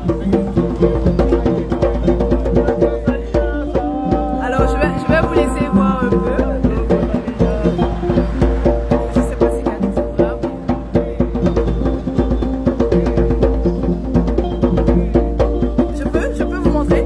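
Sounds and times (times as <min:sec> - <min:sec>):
plucked lute notes: 0:00.0 - 0:17.0.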